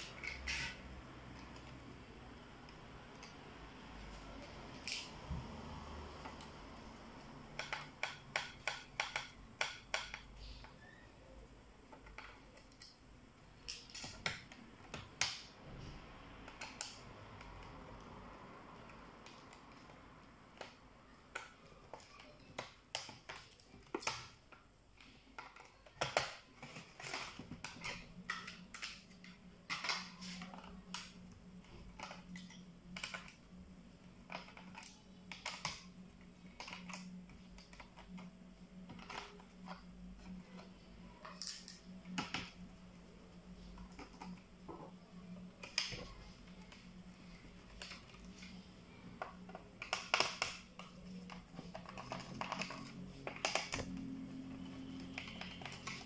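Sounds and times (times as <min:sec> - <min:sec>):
faint low hum: 0:00.0 - 0:56.0.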